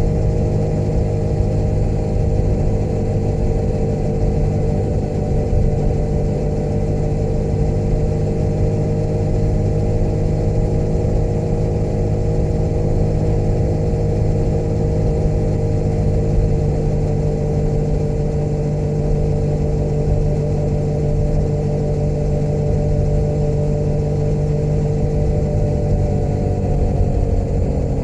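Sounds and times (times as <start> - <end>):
motorcycle engine running steadily: 0.0 - 28.0.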